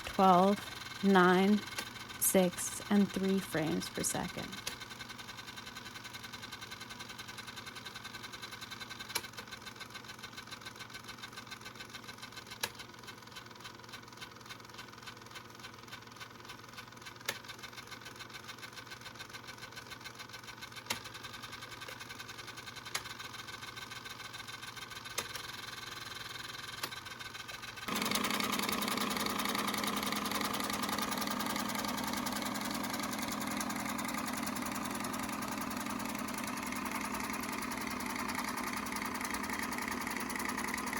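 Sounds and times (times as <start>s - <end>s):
film projector clattering: 0.0s - 2.2s, 4.4s - 40.9s.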